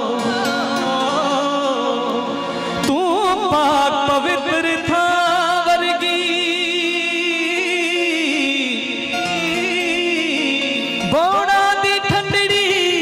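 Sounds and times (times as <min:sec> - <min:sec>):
devotional song melody: 0:00.0 - 0:13.0
keyboard accompaniment: 0:00.0 - 0:13.0.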